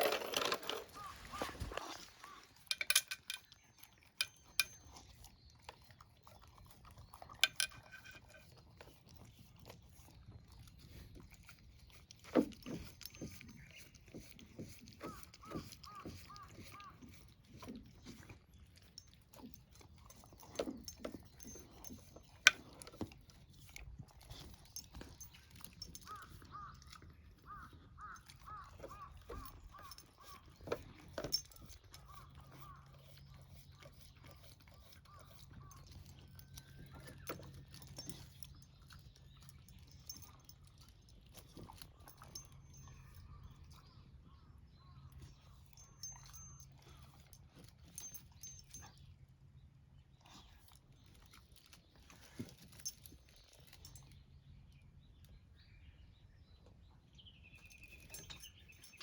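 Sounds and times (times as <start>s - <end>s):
pet crunching and chewing food: 0.0s - 55.7s.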